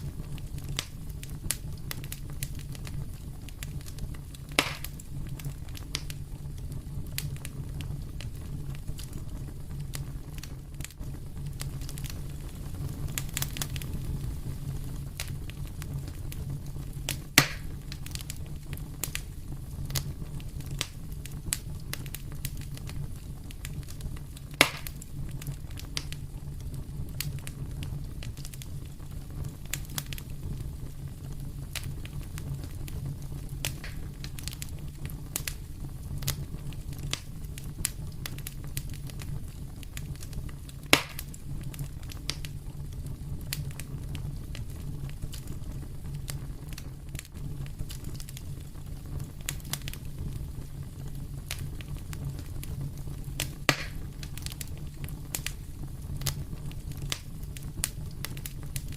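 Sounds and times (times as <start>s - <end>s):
fireplace fire crackling: 0.0s - 58.9s
sharp fire snaps: 0.0s - 58.9s.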